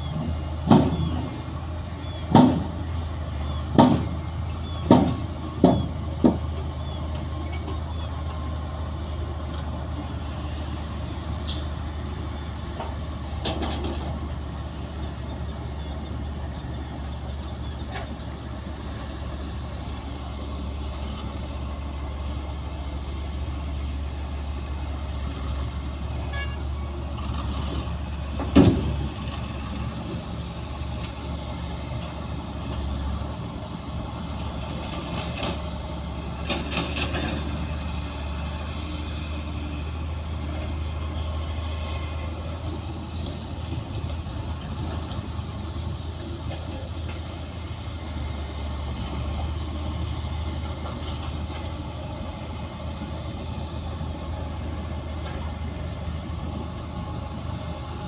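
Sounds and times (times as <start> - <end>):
heavy diesel machinery droning: 0.0 - 58.0.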